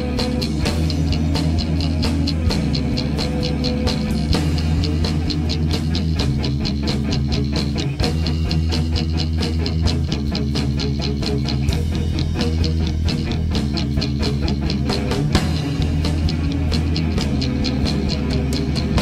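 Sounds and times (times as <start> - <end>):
fast drum beat: 0.0 - 19.0
rock music with electric guitar: 0.0 - 19.0.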